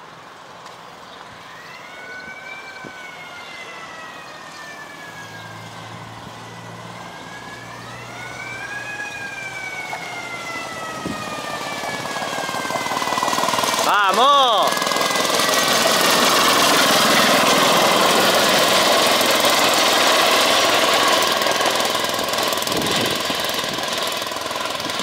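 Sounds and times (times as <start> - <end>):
siren wailing: 1.4 - 25.0.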